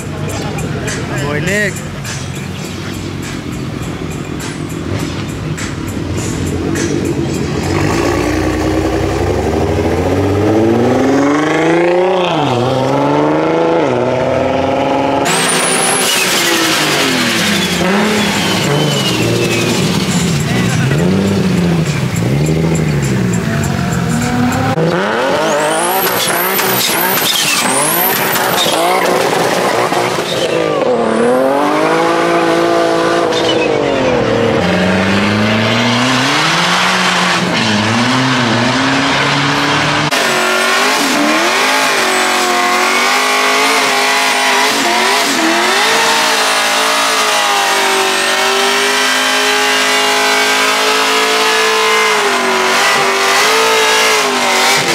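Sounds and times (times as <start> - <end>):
car engines revving: 0.0 - 54.9
tires squealing: 0.0 - 54.9
tires spinning in burnout: 7.5 - 54.9.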